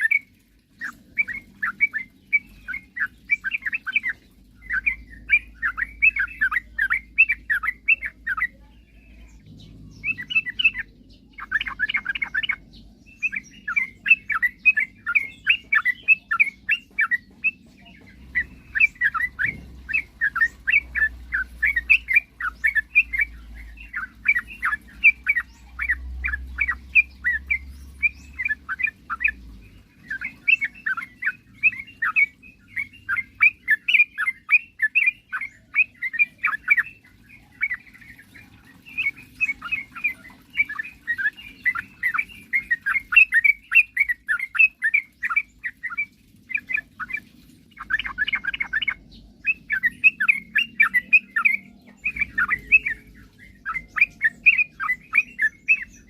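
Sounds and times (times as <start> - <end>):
bird singing chattering notes: 0.0 - 56.0.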